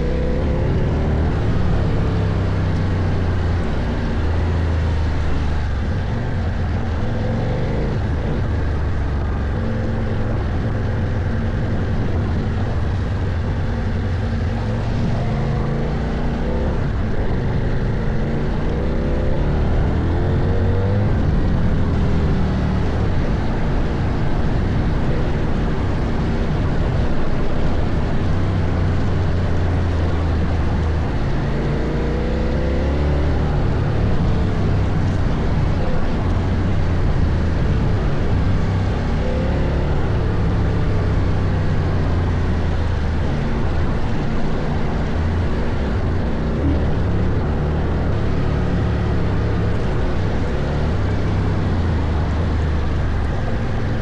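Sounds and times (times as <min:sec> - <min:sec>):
motorcycle engine revving: 0:00.0 - 0:54.0
steady rushing noise: 0:00.0 - 0:54.0.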